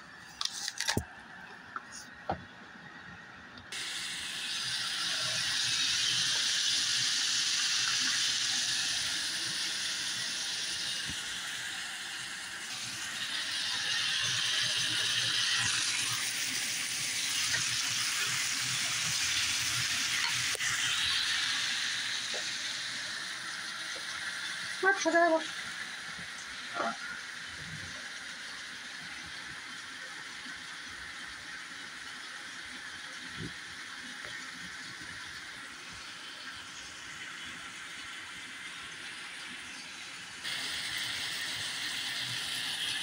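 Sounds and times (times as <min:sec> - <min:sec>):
vegetables sizzling in a frying pan: 0:03.8 - 0:39.2, 0:39.8 - 0:43.0.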